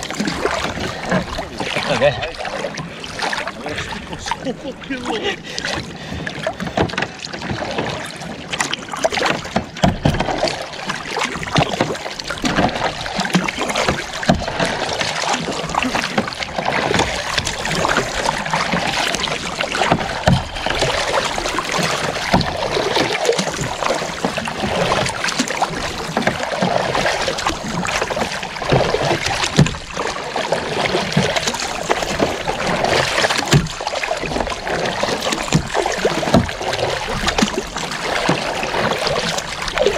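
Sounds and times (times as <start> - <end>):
paddle splashing in water: 0.0 - 39.9
water washing along a hull: 0.0 - 39.9.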